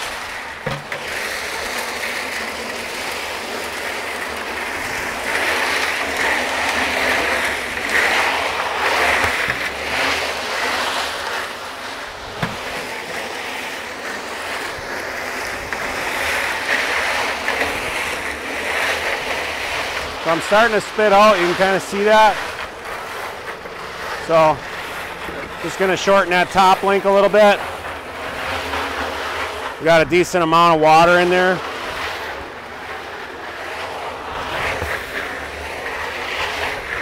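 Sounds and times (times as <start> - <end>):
concrete mixer churning: 0.0 - 37.0
tractor diesel engine: 0.0 - 37.0.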